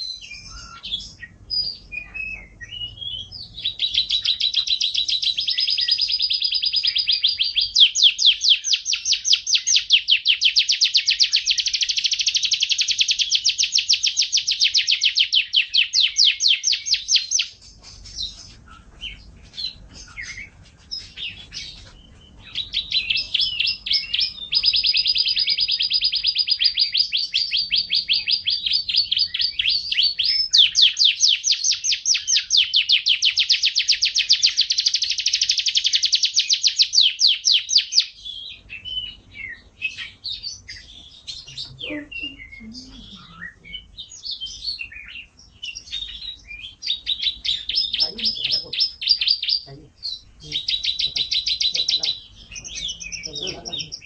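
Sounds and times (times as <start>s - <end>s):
canary chirps: 0.0s - 54.0s
canary trilling: 0.0s - 54.0s.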